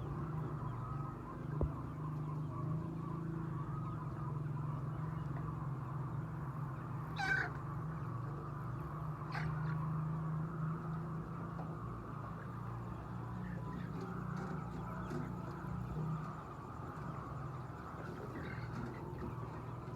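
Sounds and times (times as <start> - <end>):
hens clucking: 0.0 - 19.9.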